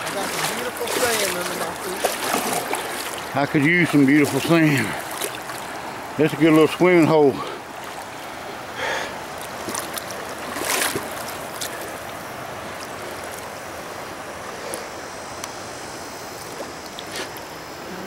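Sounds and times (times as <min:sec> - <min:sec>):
river water rushing over rapids: 0:00.0 - 0:18.0
water splashes: 0:00.0 - 0:18.0.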